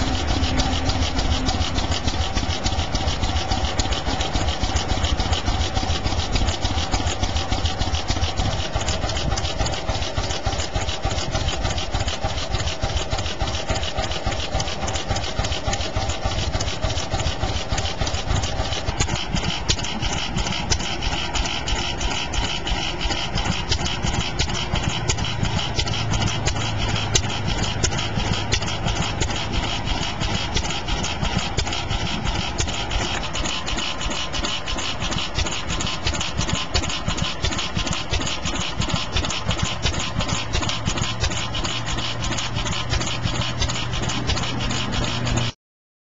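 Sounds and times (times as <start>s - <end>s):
flywheel engine clattering: 0.0s - 45.6s.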